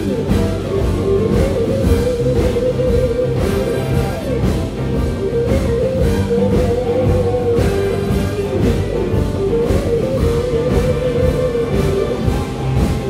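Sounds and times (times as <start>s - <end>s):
large blues band playing: 0.0s - 13.0s.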